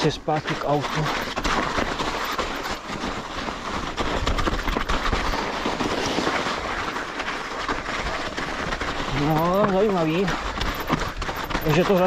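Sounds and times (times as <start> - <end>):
bike tyres rolling on trail: 0.0 - 12.0
bike knocks and rattles: 1.0 - 12.0.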